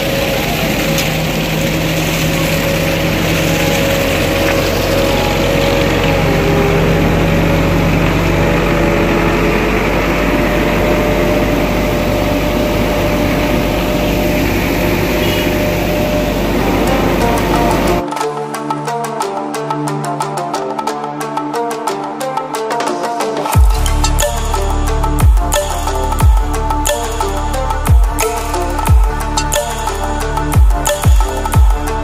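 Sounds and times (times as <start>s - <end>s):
diesel engine running: 0.0s - 18.0s, 23.5s - 32.0s.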